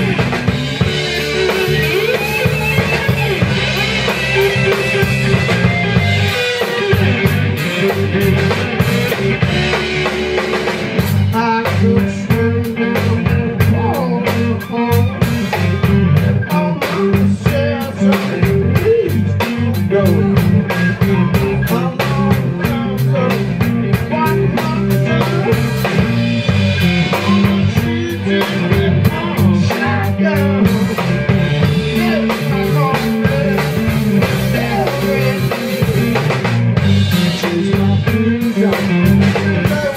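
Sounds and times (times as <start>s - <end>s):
blues-rock band playing: 0.0s - 39.9s
drum kit beat: 0.0s - 39.9s
electric slide guitar: 0.0s - 39.9s.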